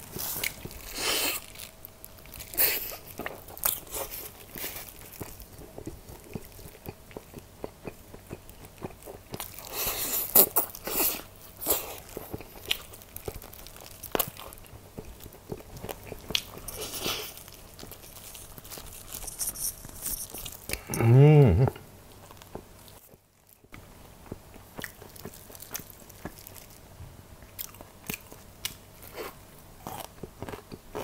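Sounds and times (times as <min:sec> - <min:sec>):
person chewing chicken: 0:00.0 - 0:23.6, 0:24.2 - 0:26.8, 0:27.4 - 0:31.0.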